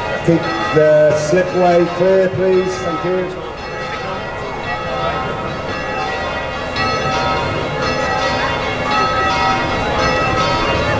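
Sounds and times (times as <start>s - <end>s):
church bells ringing: 0.0s - 10.9s.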